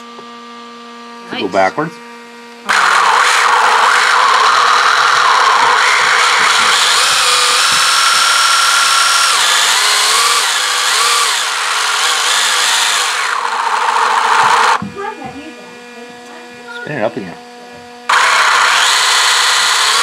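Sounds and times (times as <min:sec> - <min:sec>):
electric motor whirring gears: 0:01.3 - 0:20.0.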